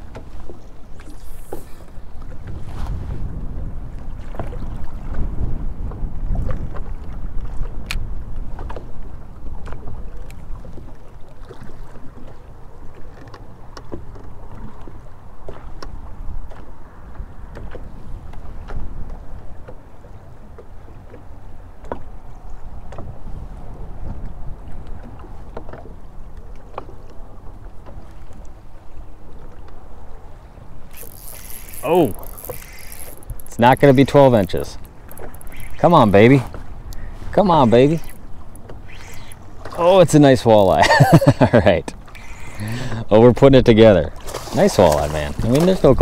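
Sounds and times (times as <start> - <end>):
wind buffeting microphone: 0.0 - 11.0, 14.0 - 43.1
water noise: 0.0 - 46.0
waves slapping against hull: 0.0 - 46.0.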